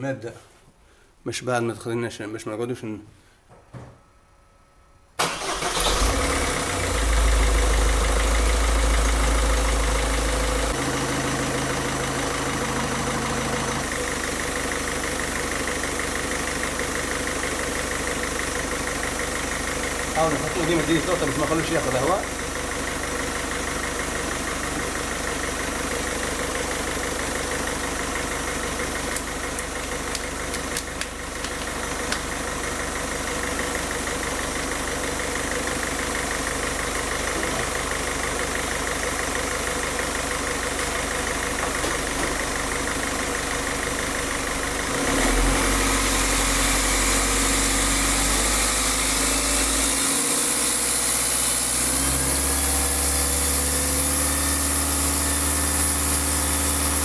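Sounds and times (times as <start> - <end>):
diesel engine idling: 5.2 - 57.0.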